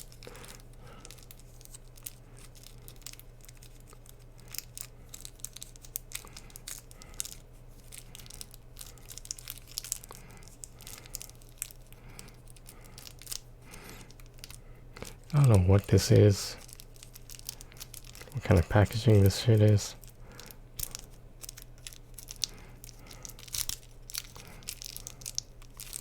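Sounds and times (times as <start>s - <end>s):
packaging crinkling and tearing: 0.0s - 26.0s
steady low hum: 0.0s - 26.0s.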